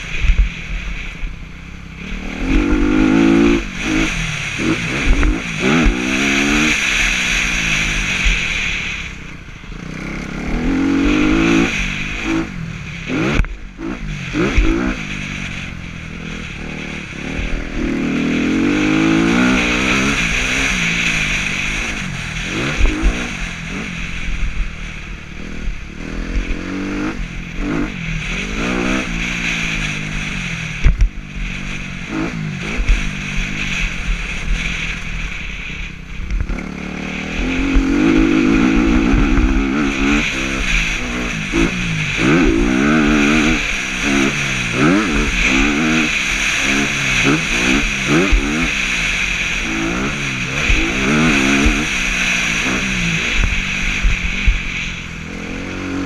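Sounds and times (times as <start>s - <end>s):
motocross bike engine revving: 0.0s - 56.0s
wind on microphone: 9.8s - 56.0s.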